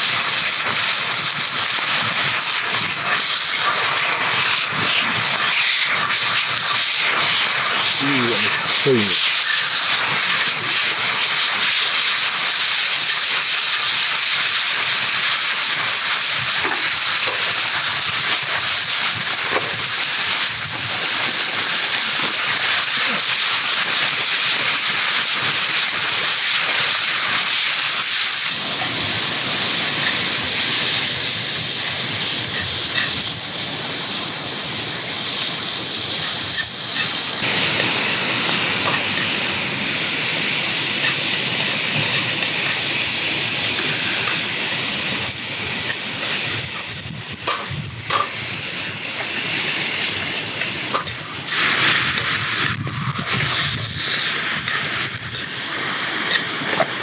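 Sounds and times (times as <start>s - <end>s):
meat sizzling in frying pan: 0.0s - 57.0s.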